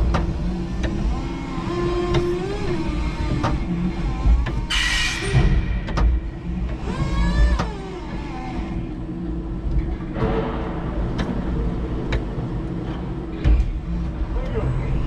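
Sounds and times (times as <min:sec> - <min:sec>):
forklift motor hum: 0:00.0 - 0:15.0
sharp knocks and rattles: 0:01.8 - 0:14.2.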